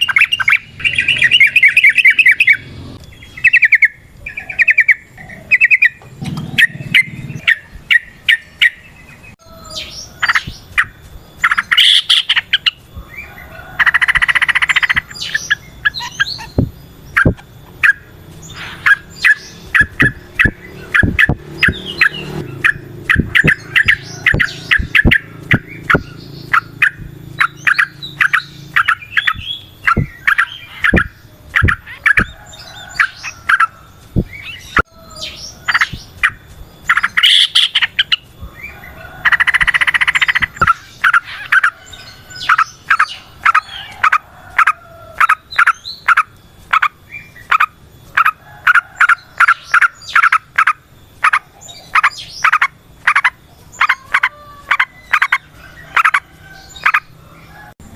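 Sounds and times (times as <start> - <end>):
bird chirping: 0.0 - 57.9.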